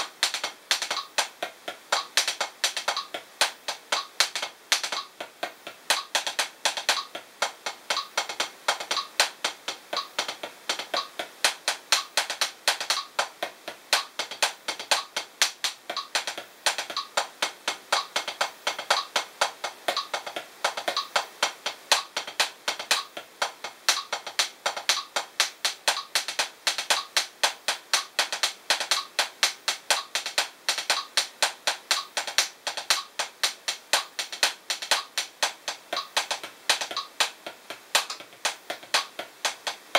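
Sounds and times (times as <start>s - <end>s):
drumsticks tapping practice pad: 0.0s - 39.9s.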